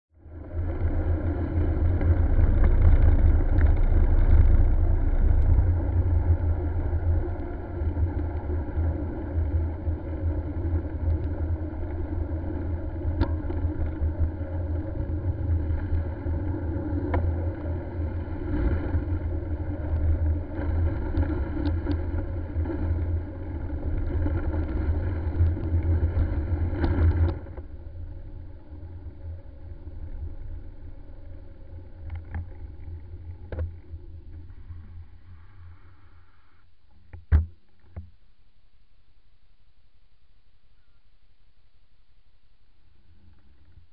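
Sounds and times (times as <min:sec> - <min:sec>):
wind on camera: 0:00.2 - 0:35.8
vehicle rumbling: 0:00.2 - 0:36.5.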